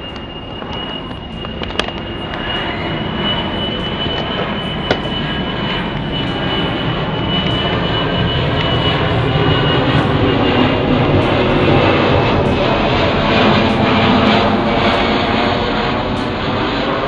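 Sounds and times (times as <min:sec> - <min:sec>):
airliner engines rushing: 0:00.0 - 0:17.0
thin high engine whine: 0:00.0 - 0:17.0.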